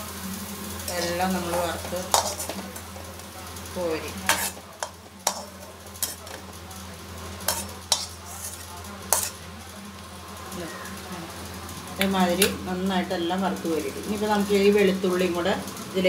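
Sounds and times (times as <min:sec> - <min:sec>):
oil sizzling: 0:00.0 - 0:16.0.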